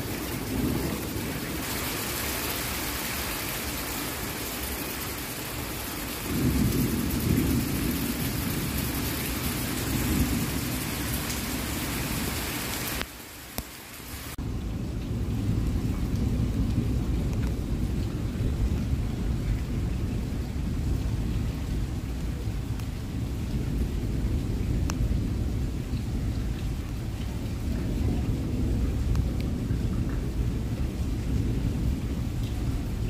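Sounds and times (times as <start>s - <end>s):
rolling thunder: 0.0s - 2.9s, 5.6s - 12.6s, 14.4s - 33.0s
rain falling: 0.0s - 33.0s.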